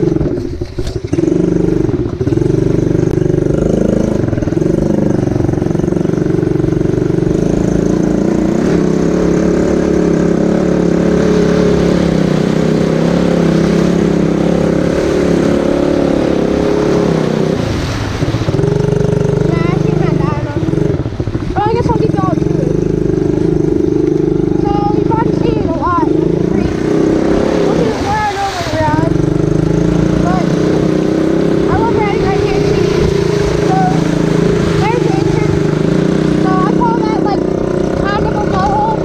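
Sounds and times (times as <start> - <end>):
quad engine running: 0.0 - 39.0
quad splashing through puddle: 0.0 - 39.0.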